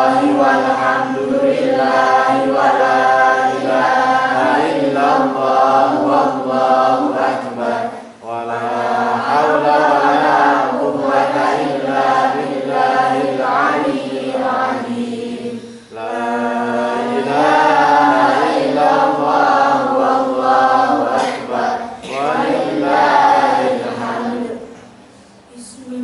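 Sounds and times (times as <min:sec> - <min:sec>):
boy chanting into a microphone: 0:00.0 - 0:24.8, 0:25.5 - 0:26.0.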